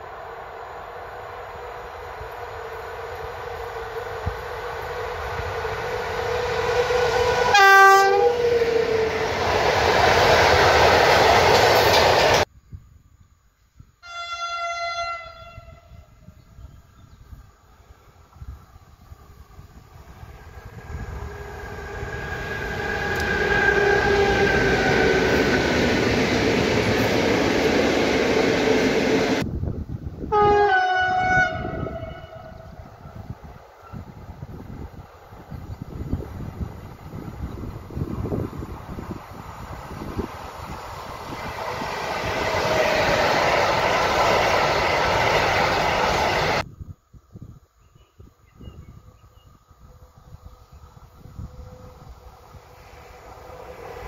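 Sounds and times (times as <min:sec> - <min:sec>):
locomotive multi-tone whine: 0:00.0 - 0:12.5, 0:14.0 - 0:46.7, 0:49.5 - 0:54.0
rail and wheel rumble: 0:00.0 - 0:54.0.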